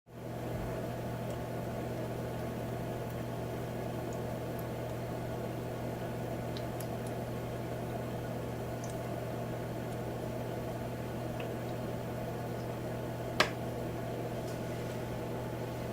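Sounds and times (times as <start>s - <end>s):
humidifier hum and rushing: 0.1s - 15.9s.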